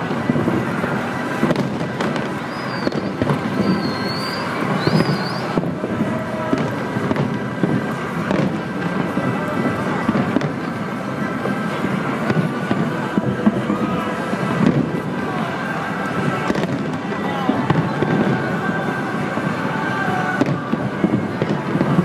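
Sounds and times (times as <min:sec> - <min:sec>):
fireworks booming and crackling: 0:00.0 - 0:22.0
sharp fireworks bangs: 0:00.0 - 0:22.0.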